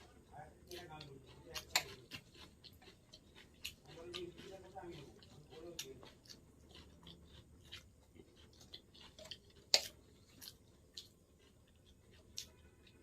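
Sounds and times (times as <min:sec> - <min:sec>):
wet chewing mouth sounds: 0:00.0 - 0:13.0.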